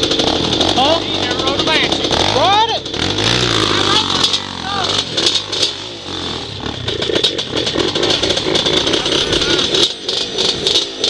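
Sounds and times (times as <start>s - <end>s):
off-road engine running: 0.0s - 11.0s.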